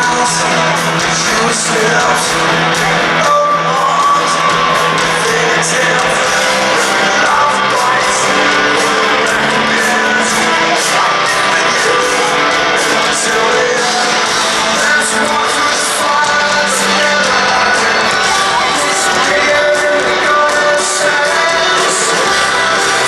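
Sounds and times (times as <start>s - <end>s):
person singing: 0.0s - 23.0s
rock band playing live: 0.0s - 23.0s.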